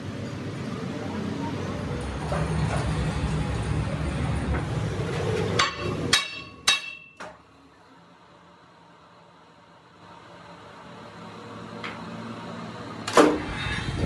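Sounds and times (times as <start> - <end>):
low machine rumble: 0.0 - 6.2, 7.6 - 14.0.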